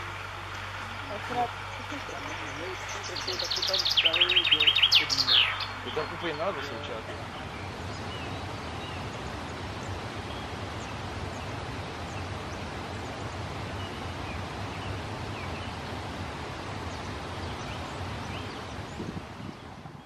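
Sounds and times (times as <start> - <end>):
outdoor low rumble: 0.0 - 20.0.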